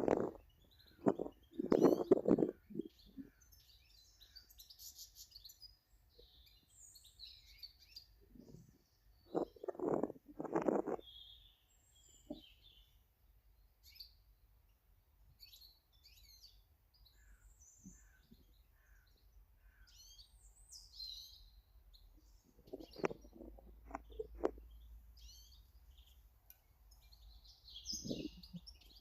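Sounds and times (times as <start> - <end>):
small birds chirping and singing: 0.0 - 29.0.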